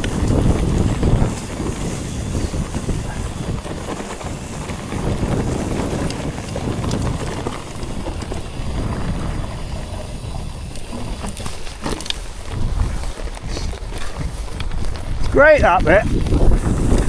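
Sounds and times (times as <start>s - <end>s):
bike frame rattling: 0.0s - 15.2s
bike tyres rumbling over rocks: 0.0s - 17.0s
wind on microphone: 0.0s - 17.0s.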